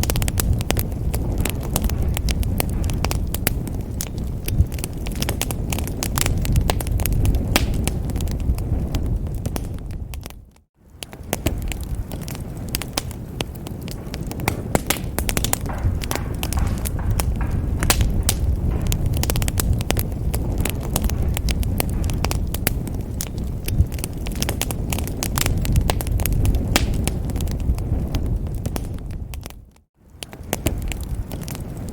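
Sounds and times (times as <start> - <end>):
sharp fire pops and snaps: 0.0 - 31.9
wood fire crackling: 0.0 - 31.9.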